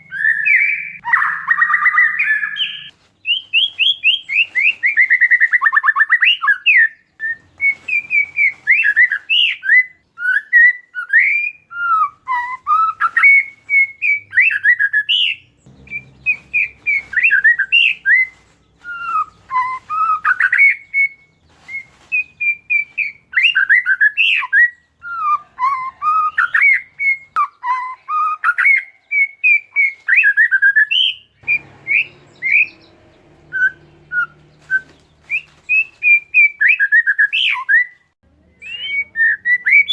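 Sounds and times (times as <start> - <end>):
bird singing varied whistles: 0.0 - 39.9.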